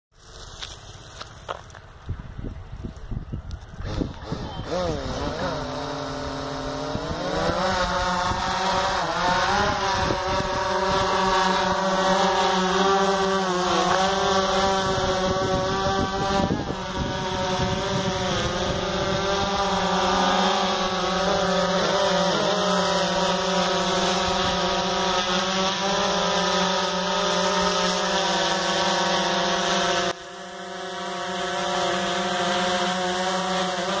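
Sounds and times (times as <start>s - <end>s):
drone propellers buzzing: 1.2s - 34.0s.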